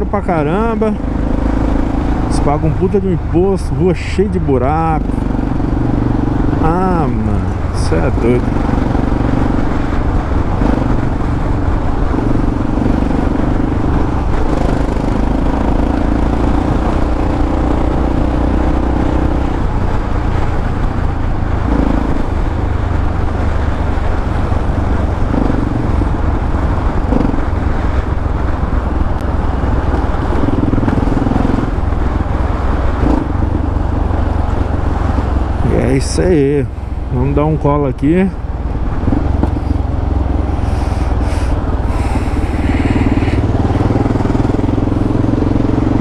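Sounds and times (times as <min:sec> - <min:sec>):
motorcycle engine rumbling: 0:00.0 - 0:46.0.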